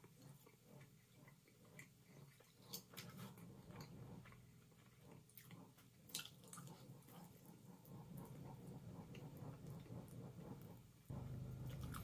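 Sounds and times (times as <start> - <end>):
faint chewing with mouth clicks: 0.0 - 12.0
low steady hum: 0.0 - 12.0.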